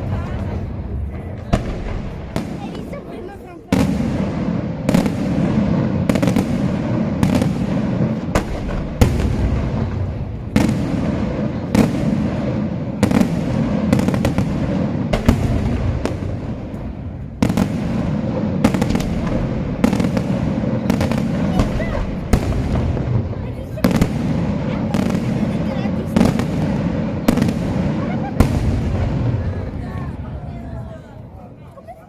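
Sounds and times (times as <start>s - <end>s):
rumble of echoing detonations: 0.0s - 31.4s.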